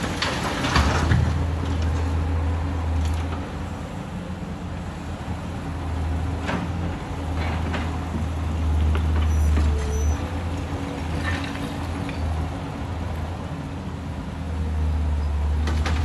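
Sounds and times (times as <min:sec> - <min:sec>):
excavator engine drone: 0:00.0 - 0:16.0.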